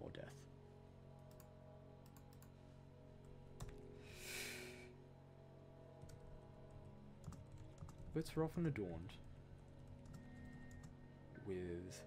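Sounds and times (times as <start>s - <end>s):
low hum: 0.3s - 11.5s.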